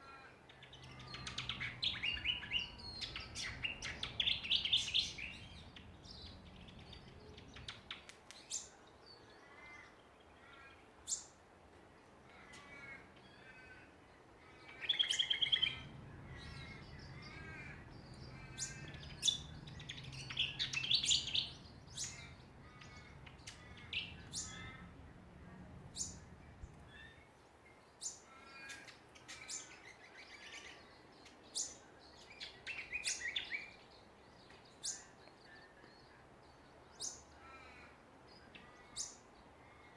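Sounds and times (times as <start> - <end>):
songbirds chipping and twittering: 0.0 - 39.9.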